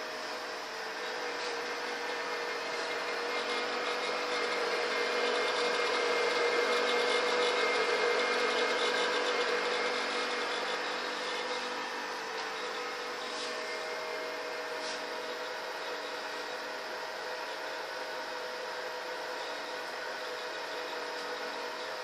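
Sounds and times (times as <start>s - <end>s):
rotating beacon motor whir: 0.0s - 22.0s.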